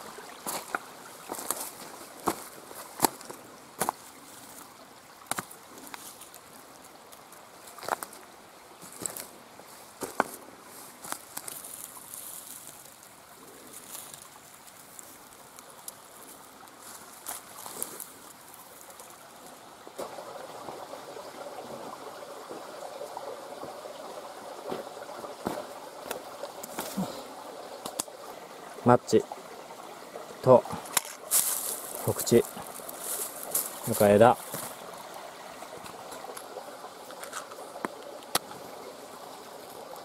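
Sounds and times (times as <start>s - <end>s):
river water running: 0.0s - 40.0s.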